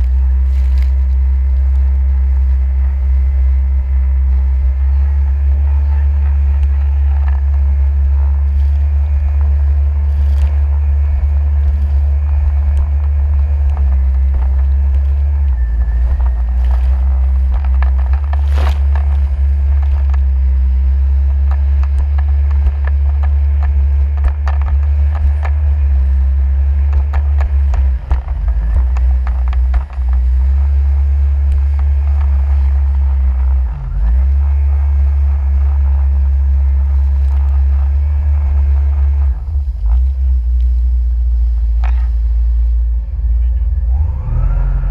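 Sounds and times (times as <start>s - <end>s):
jet ski low rumble: 0.0s - 44.9s.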